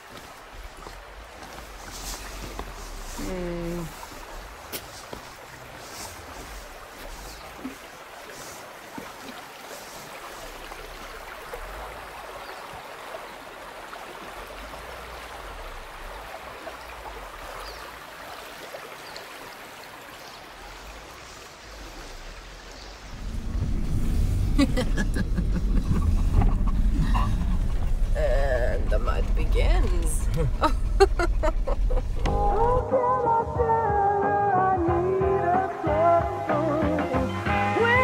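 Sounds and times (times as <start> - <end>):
creek flowing over gravel: 0.0 - 32.8.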